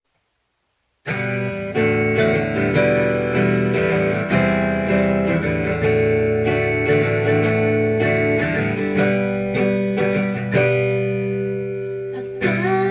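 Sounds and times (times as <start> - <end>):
acoustic guitar strumming chords: 1.0 - 12.9.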